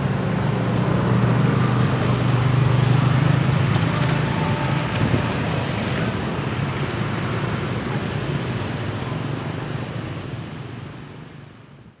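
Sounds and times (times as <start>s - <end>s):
train rumbling on track: 0.0s - 11.5s.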